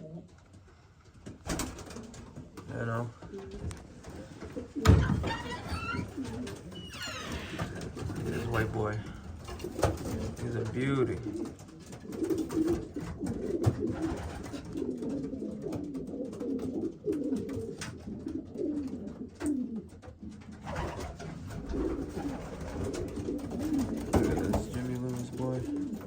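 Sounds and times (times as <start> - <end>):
pigeons cooing: 0.0 - 0.3, 1.6 - 26.0.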